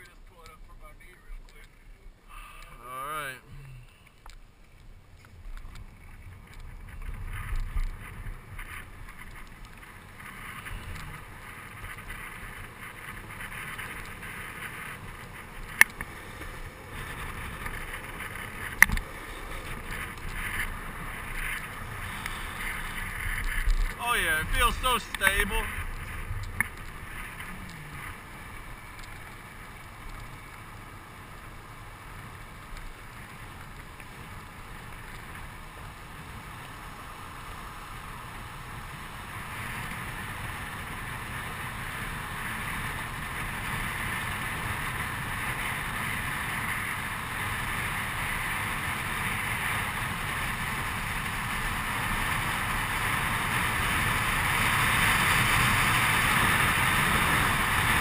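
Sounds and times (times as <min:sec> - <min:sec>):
longboard wheels rolling on asphalt: 0:00.0 - 0:58.0.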